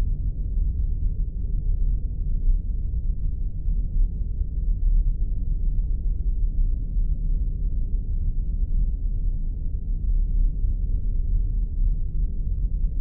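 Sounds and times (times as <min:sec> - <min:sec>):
spaceship deep rumble: 0:00.0 - 0:13.0.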